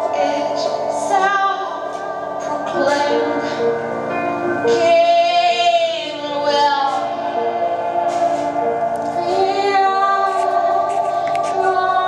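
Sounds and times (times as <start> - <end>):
woman singing: 0.0 - 3.9, 4.5 - 12.0
piano accompaniment: 0.0 - 12.0.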